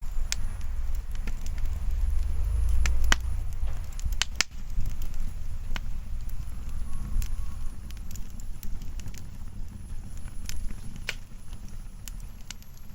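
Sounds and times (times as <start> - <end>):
bonfire crackling: 0.0 - 12.9
sharp pops of fire: 0.0 - 12.9
steady low rumble: 0.0 - 12.9.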